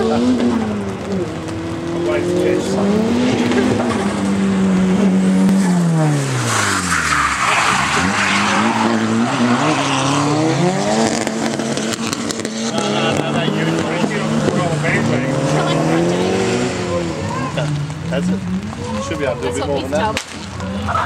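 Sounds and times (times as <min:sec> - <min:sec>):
car engine revving hard: 0:00.0 - 0:20.7.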